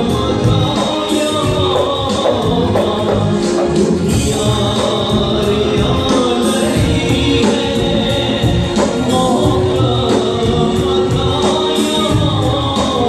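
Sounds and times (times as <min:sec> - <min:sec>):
conga drums: 0:00.0 - 0:13.0
keyboard: 0:00.0 - 0:13.0
man singing into microphone: 0:00.0 - 0:13.0.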